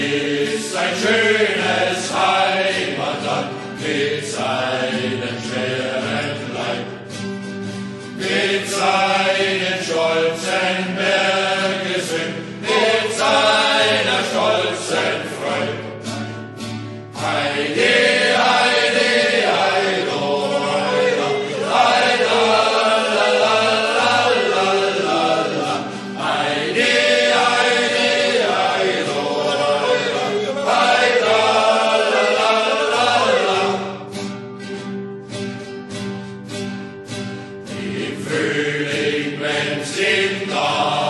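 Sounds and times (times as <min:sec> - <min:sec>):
male choir singing: 0:00.0 - 0:16.4, 0:17.1 - 0:34.3, 0:37.6 - 0:41.0
rhythmic accompaniment: 0:00.0 - 0:41.0.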